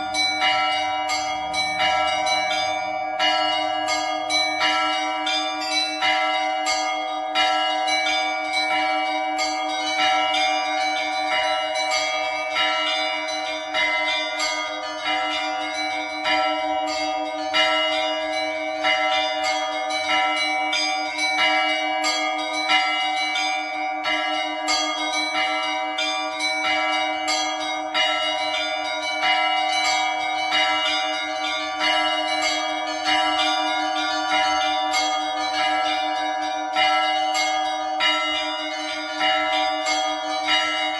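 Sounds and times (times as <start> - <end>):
heavy bell stroke: 0.0 - 40.9
hum of large bells: 0.0 - 40.9
small high bells ringing: 0.0 - 40.9.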